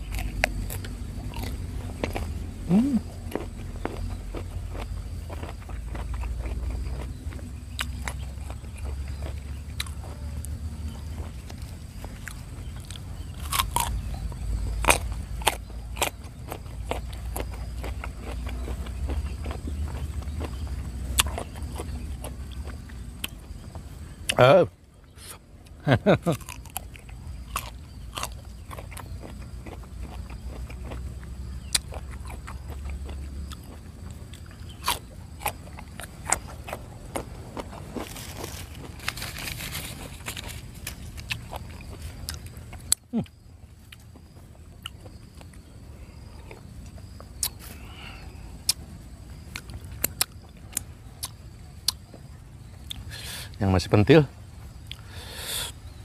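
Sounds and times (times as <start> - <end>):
chewing crunchy raw fruit: 0.0 - 56.0.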